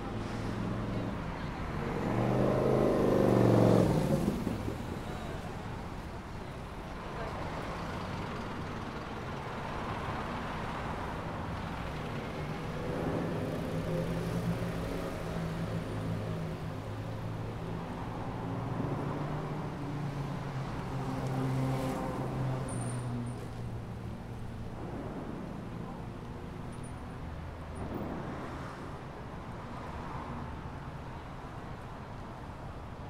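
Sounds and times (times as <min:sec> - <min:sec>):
cars passing: 0:00.0 - 0:31.8.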